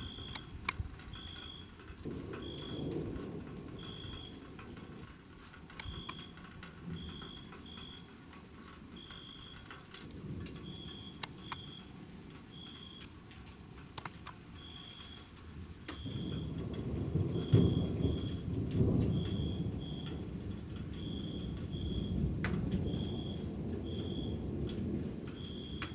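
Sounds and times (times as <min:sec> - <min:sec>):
drips and clicks: 0:00.0 - 0:25.9
thunder rumbling: 0:00.0 - 0:25.9.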